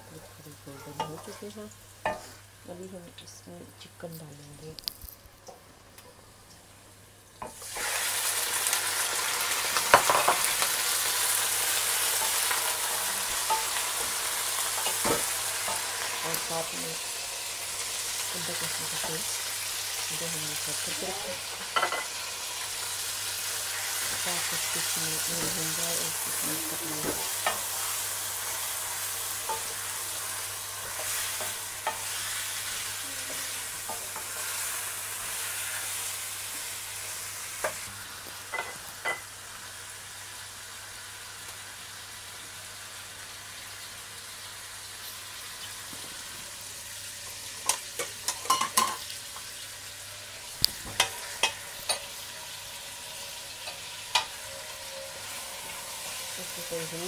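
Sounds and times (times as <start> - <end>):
chicken sizzling in oil: 7.3 - 57.0.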